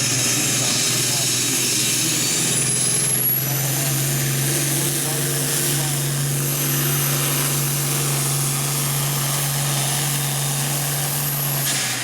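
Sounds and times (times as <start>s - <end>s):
tractor engine at high revs: 0.0s - 12.0s.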